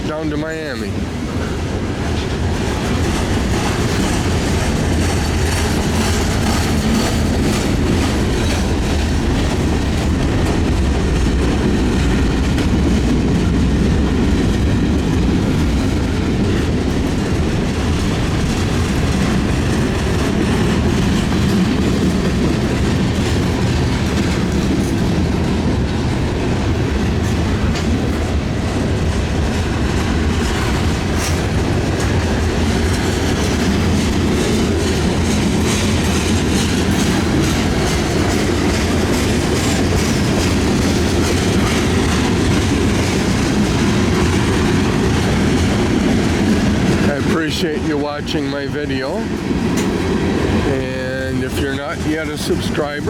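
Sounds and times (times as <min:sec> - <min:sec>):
low rumble of train: 0:00.0 - 0:53.0
train wheels clacking: 0:00.0 - 0:53.0.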